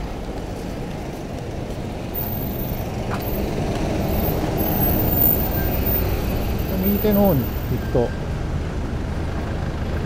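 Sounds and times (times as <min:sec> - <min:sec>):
minibus driving past: 0:00.0 - 0:10.0
traffic rumble: 0:00.0 - 0:10.0.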